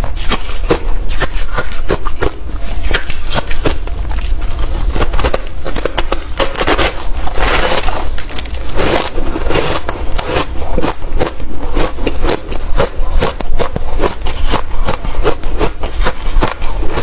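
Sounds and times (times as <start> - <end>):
chewing crushed ice: 0.0 - 17.0.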